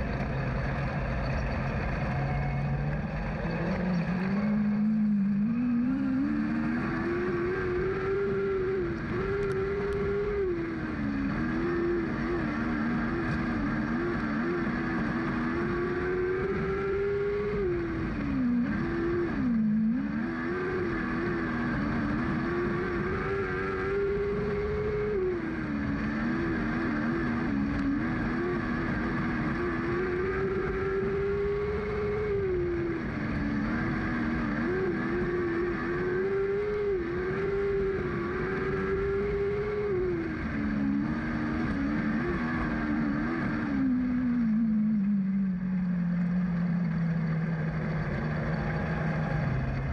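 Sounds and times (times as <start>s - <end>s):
racing car engine revving: 0.0s - 49.9s.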